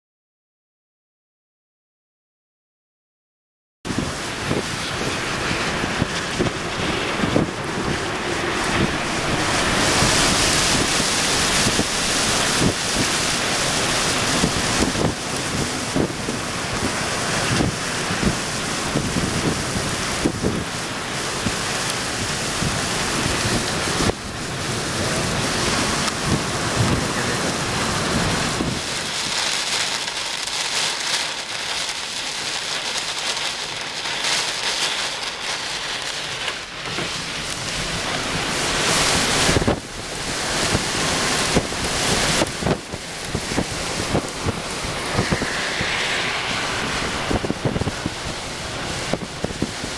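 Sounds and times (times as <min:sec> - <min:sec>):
heavy rain: 0:03.9 - 0:49.9
strong gusting wind: 0:03.9 - 0:49.9.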